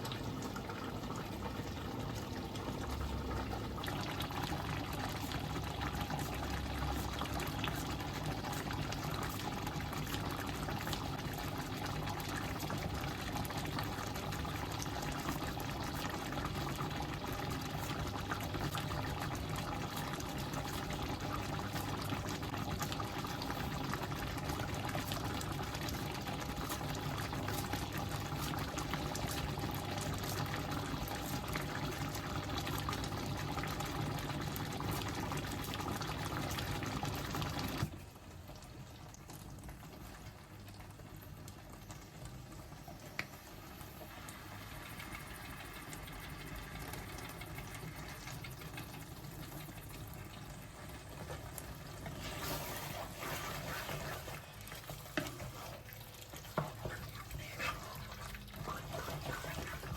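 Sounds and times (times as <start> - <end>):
pan bubbling and hissing: 0.0 - 59.9.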